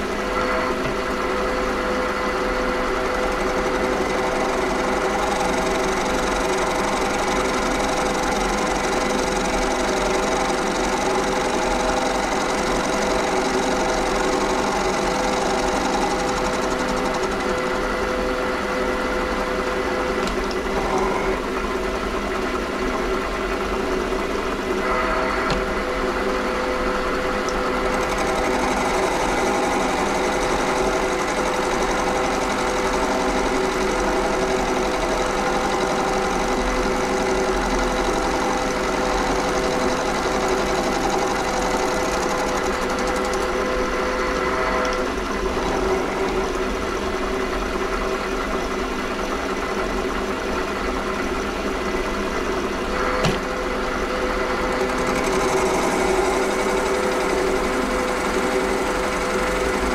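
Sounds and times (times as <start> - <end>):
steady whine: 0.0 - 48.9
bench lathe running: 0.0 - 59.9.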